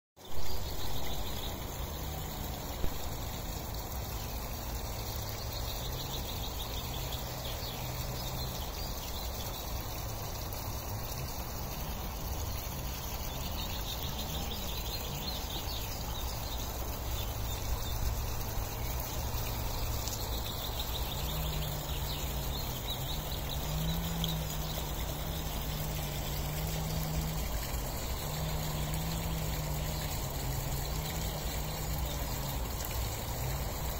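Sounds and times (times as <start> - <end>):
water trickling into a pond: 0.2 - 33.9.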